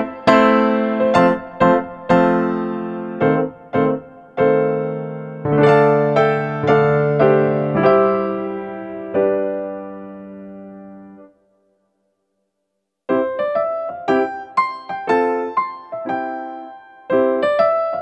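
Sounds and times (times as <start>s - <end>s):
piano music: 0.0s - 11.4s, 13.1s - 18.0s.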